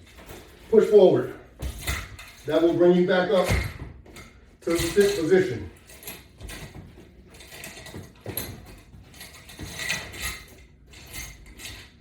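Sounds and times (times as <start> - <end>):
workout gear clicking and rattling: 0.0 - 12.0.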